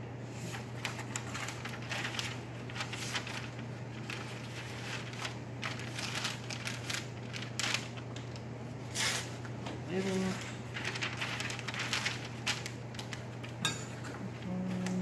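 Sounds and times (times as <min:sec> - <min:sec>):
low room hum: 0:00.0 - 0:15.0
paper rustling and crinkling: 0:00.4 - 0:13.6, 0:14.2 - 0:15.0.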